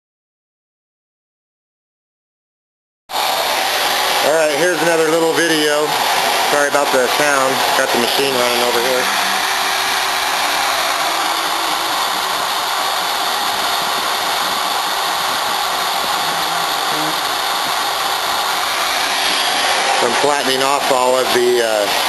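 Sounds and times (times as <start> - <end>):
router spindle hissing: 3.2 - 22.0.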